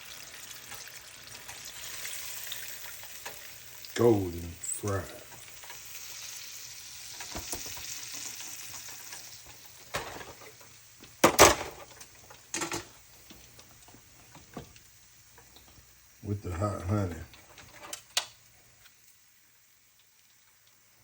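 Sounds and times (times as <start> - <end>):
meat sizzling in hot grease: 0.0 - 21.0.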